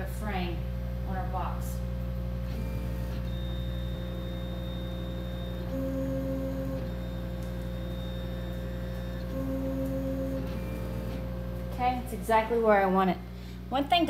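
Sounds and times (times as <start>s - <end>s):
machine hum: 0.0s - 14.0s
laser engraver motors whining: 0.6s - 12.8s.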